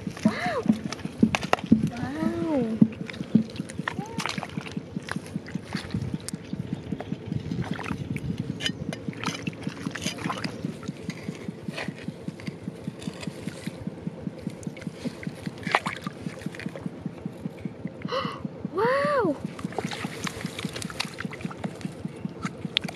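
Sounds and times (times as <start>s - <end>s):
muddy water sloshing and splashing: 0.0s - 17.1s, 19.4s - 22.9s
rapid low pulsing: 0.0s - 22.9s.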